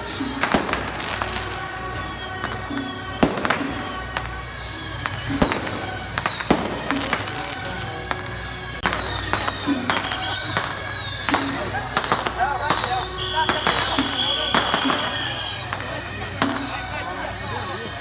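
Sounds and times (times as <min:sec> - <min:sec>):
fireworks banging: 0:00.0 - 0:17.5
fireworks whistling: 0:00.0 - 0:18.0.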